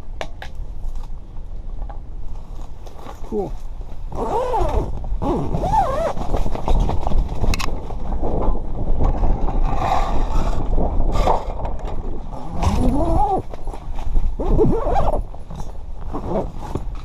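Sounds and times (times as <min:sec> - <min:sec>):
wind buffeting microphone: 0:03.3 - 0:17.0.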